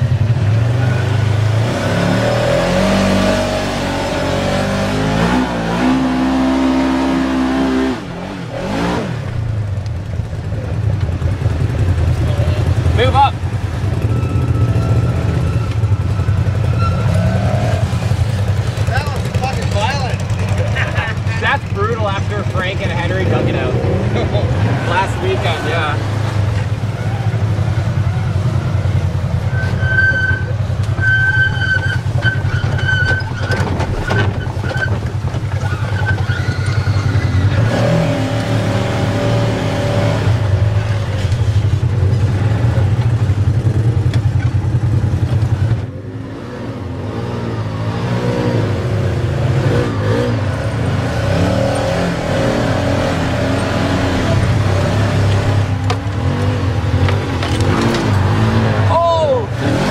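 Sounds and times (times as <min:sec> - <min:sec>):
utv engines revving: 0:00.0 - 0:59.9.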